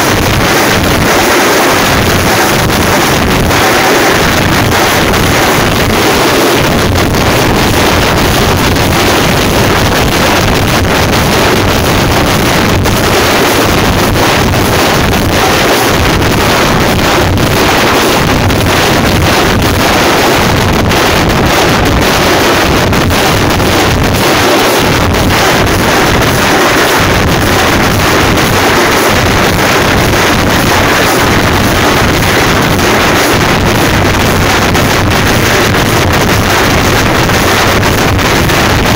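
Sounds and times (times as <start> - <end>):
frame drums played rapidly: 0.0 - 38.9.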